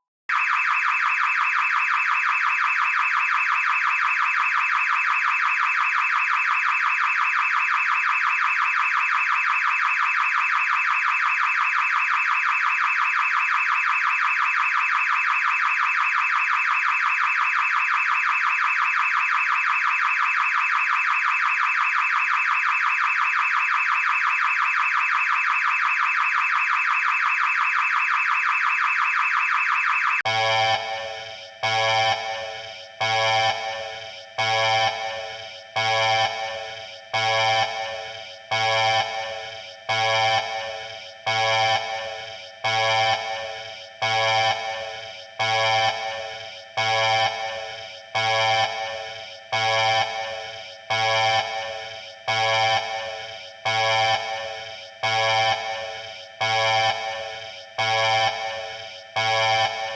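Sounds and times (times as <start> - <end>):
shrill pulsing electronic alarm: 0.3 - 59.9.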